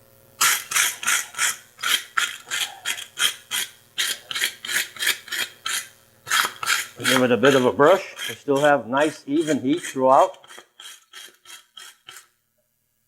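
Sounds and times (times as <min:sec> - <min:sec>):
metal-on-metal rasping: 0:00.4 - 0:12.3.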